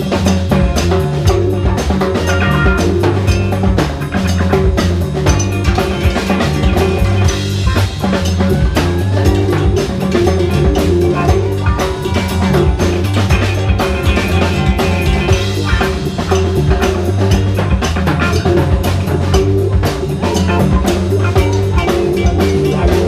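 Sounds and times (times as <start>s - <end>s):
drum kit beat: 0.0s - 23.0s
live funk-rock band: 0.0s - 23.0s.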